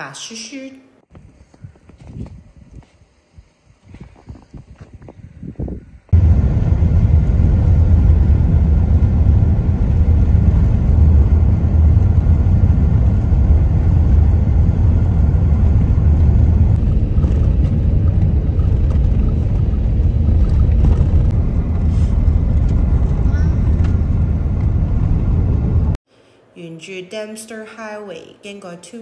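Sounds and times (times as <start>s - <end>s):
car tyres and engine rumble: 1.1s - 26.0s.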